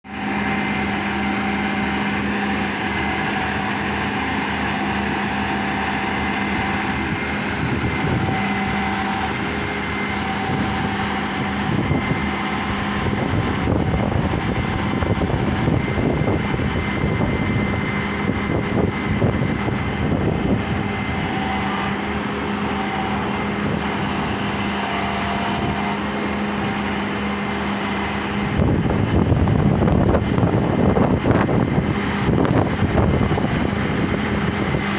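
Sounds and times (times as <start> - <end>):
concrete pump engine hum: 0.1 - 34.9.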